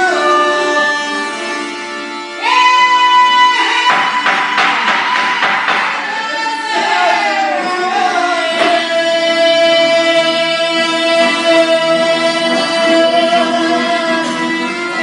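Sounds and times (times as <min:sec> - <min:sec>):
plucked string instruments: 0:00.0 - 0:15.0.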